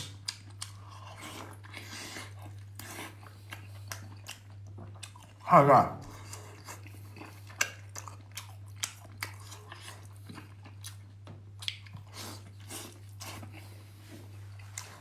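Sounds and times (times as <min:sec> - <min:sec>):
person chewing food: 0:00.0 - 0:05.4, 0:06.0 - 0:15.0
low steady hum: 0:00.0 - 0:15.0.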